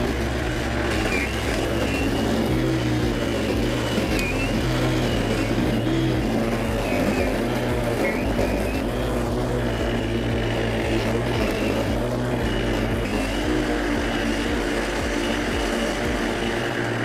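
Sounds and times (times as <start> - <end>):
lawn mower running: 0.0 - 17.0.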